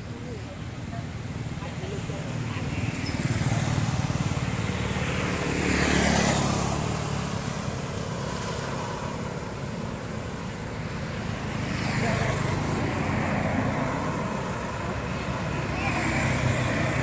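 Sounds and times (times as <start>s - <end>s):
low traffic rumble: 0.0s - 17.0s
vehicle passing: 1.4s - 17.0s.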